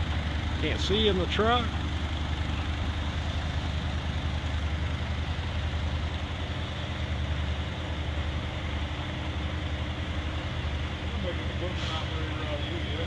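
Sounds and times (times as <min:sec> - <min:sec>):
forklift engine humming: 0:00.0 - 0:13.0.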